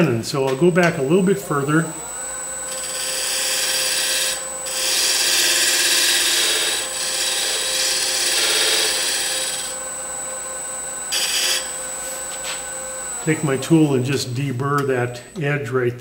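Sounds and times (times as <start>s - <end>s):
woodturning lathe whining: 0.0s - 15.5s
scraper shaving spinning wood: 1.0s - 14.3s.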